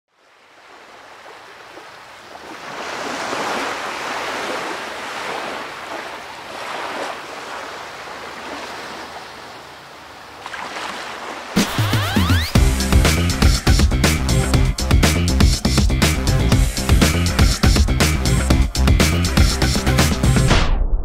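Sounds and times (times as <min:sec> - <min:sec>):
ocean waves washing: 0:00.2 - 0:20.6.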